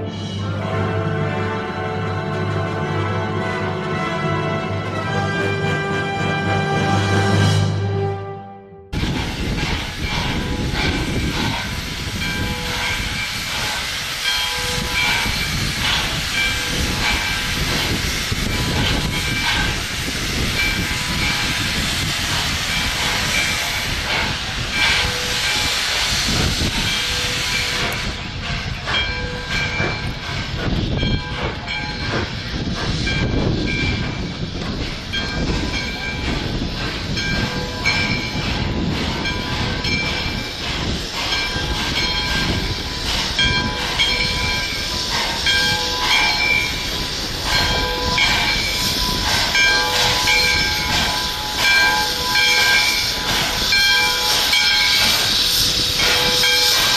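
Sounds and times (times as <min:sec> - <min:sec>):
train rumbling on rails: 0:00.0 - 0:56.9.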